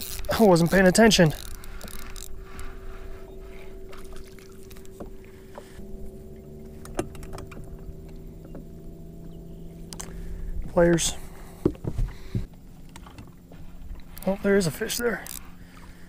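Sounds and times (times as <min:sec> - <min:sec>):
electric trolling motor humming: 0:00.0 - 0:16.0.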